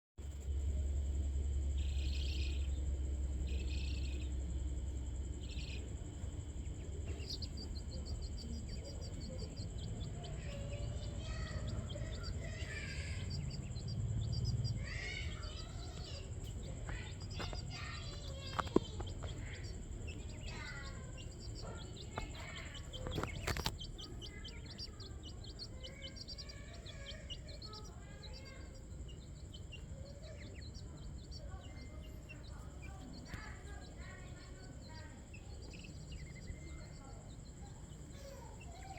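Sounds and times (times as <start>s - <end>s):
low background rumble: 0.2s - 38.9s
birds chirping and twittering: 0.6s - 38.9s.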